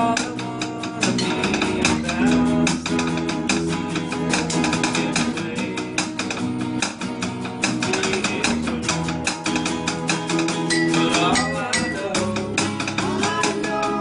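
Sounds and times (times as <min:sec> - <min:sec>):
acoustic guitars strumming: 0:00.0 - 0:14.0.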